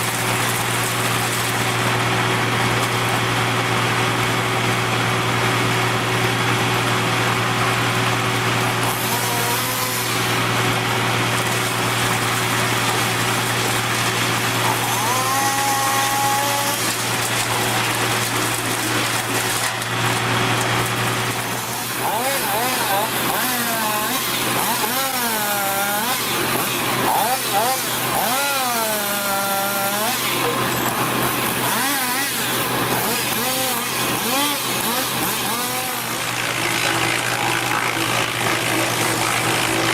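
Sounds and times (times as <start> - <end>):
machine engine droning: 0.0 - 39.9.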